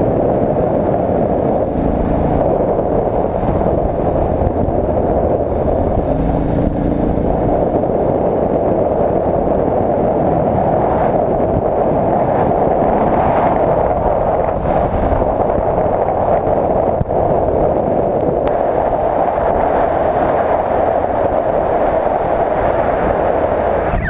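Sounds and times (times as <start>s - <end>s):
motorcycle engine cruising: 0.0s - 24.0s
wind rush on microphone: 0.0s - 24.0s.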